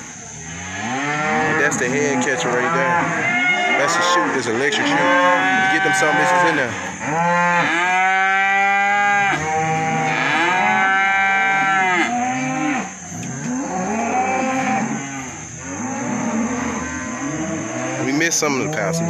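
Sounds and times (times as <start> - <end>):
cattle mooing: 0.5 - 19.0.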